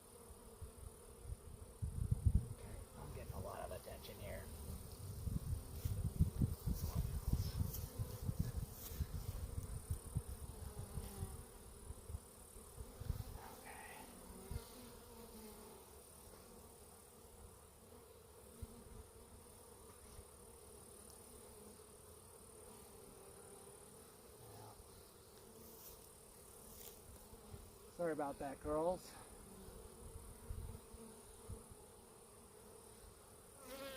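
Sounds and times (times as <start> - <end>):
honeybees buzzing: 0.0 - 33.9.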